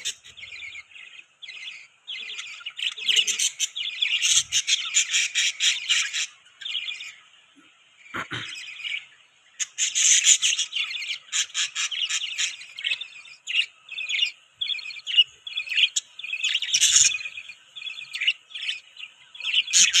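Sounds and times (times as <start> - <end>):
budgies chirping: 0.0 - 20.0.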